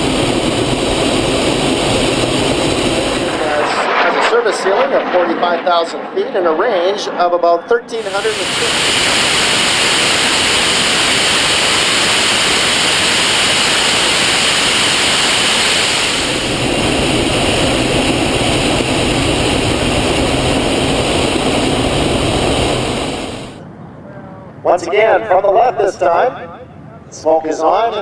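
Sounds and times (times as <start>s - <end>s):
loud jet engine rush: 0.0s - 27.6s.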